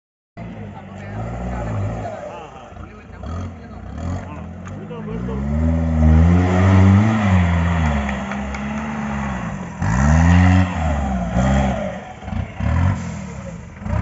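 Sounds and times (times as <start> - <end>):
diesel engine revving: 0.4 - 14.0.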